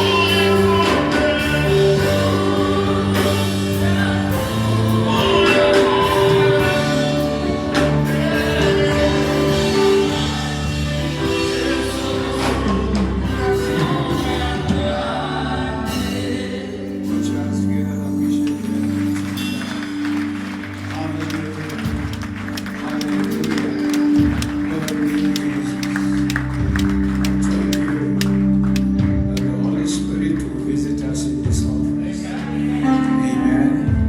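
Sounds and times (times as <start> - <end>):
gospel singing: 0.0 - 34.0.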